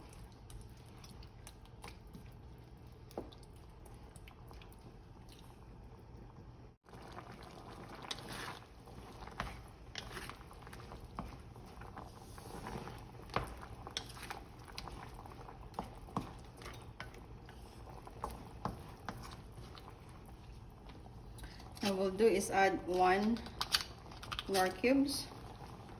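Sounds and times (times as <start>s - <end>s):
curry sauce bubbling in pot: 0.0s - 21.8s, 25.3s - 25.9s.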